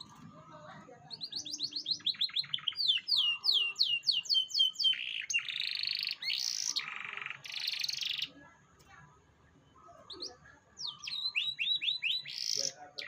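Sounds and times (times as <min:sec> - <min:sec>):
canary singing: 0:00.0 - 0:08.5, 0:09.6 - 0:13.0.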